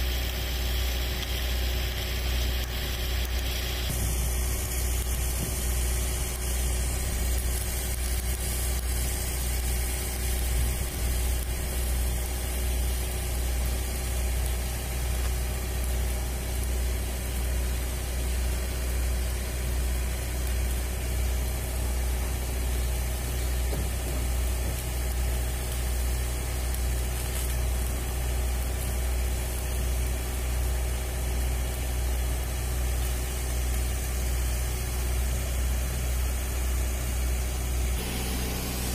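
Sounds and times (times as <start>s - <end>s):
large engine idling: 0.0s - 38.9s.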